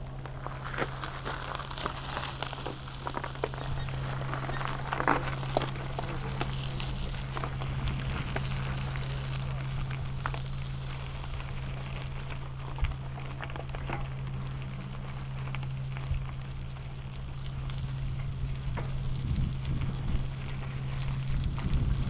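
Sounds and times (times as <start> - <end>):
bicycle tyres crunching gravel: 0.0 - 22.0
steady low hum: 0.0 - 22.0.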